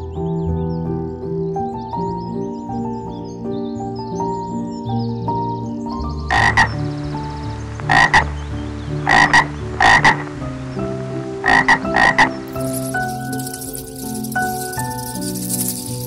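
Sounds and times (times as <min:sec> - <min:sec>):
background music with sustained notes: 0:00.0 - 0:16.0.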